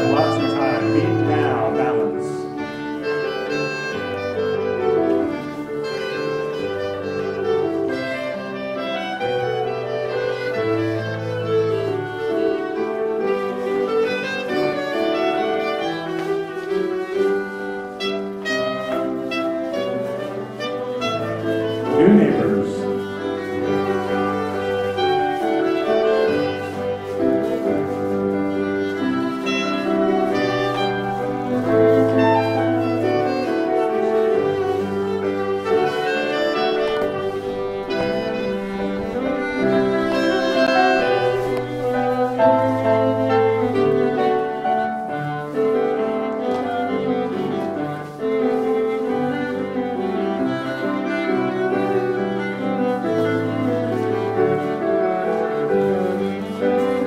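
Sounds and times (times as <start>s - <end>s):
country dance music: 0.0s - 57.0s
piano: 0.0s - 57.0s.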